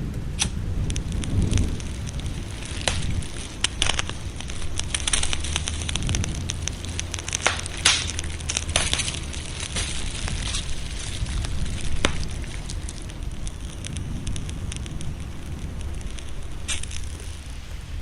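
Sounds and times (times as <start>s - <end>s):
fireplace fire crackling: 0.0s - 18.0s
low rumble: 0.0s - 18.0s
sharp pops: 0.1s - 17.6s.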